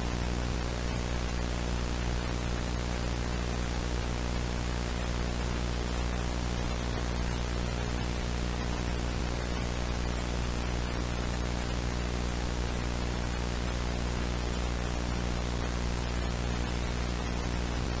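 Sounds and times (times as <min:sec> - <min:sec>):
low electrical hum: 0:00.0 - 0:18.0
static hiss: 0:00.0 - 0:18.0.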